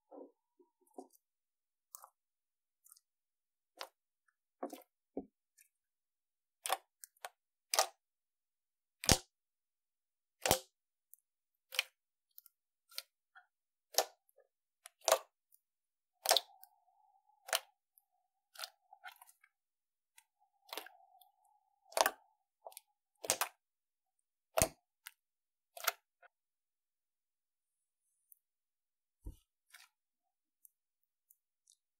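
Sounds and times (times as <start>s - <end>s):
faint drawn-out slime sounds: 0.0s - 31.9s.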